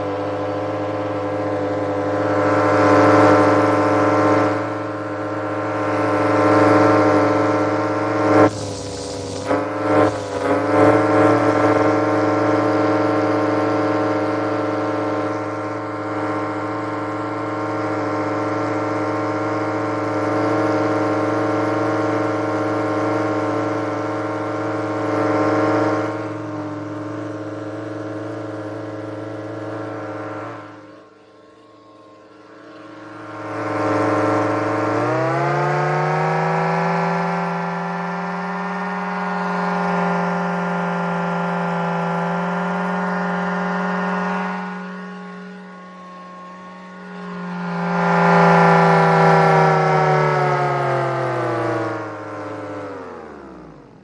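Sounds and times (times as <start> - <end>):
turbine whine: 0.0 - 54.0.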